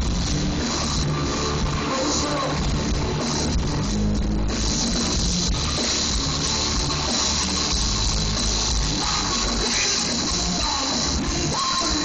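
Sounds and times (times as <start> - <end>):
live hard rock band: 0.0 - 12.0.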